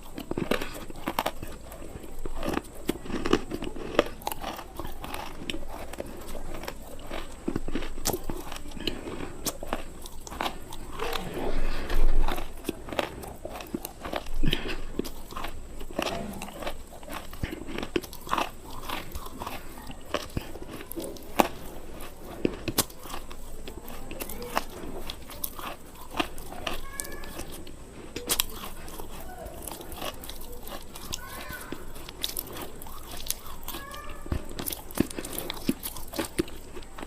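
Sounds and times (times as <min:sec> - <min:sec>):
crunchy biting and chewing: 0:00.0 - 0:37.0.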